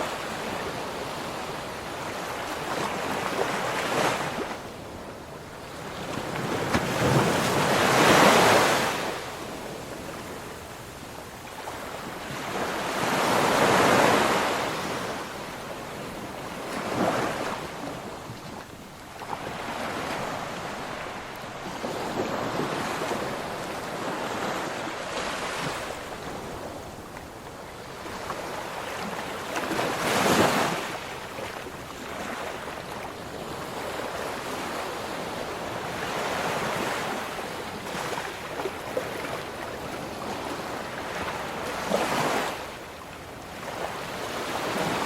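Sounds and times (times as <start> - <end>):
ocean waves breaking on beach: 0.0 - 45.0.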